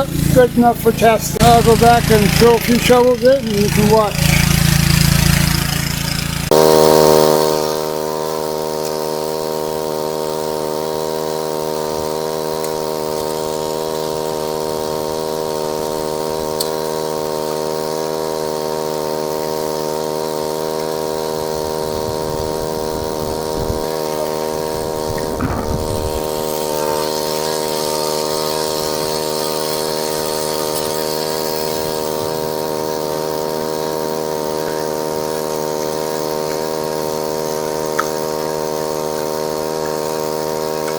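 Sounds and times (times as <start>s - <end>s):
engine-driven water pump running: 0.0s - 40.9s.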